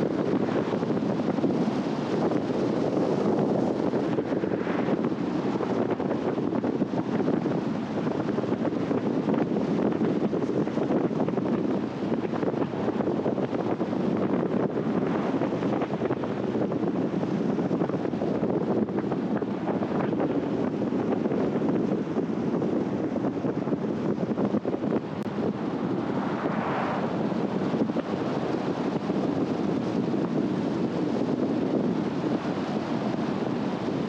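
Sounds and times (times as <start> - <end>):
car wind and road noise: 0.0 - 34.0.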